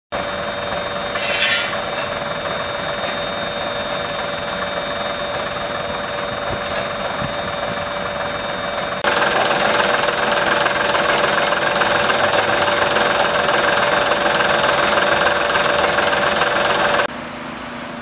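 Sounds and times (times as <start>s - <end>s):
diesel engine idling: 0.1s - 18.0s.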